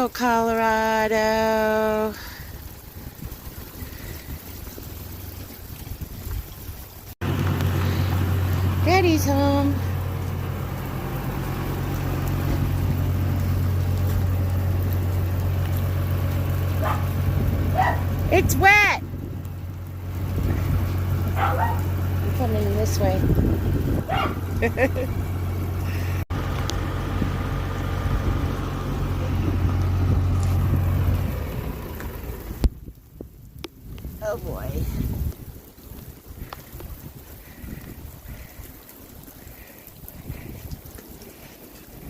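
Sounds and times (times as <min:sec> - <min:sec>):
running water hiss: 0:00.0 - 0:26.2, 0:34.1 - 0:42.0
vehicle engine humming: 0:00.0 - 0:42.0.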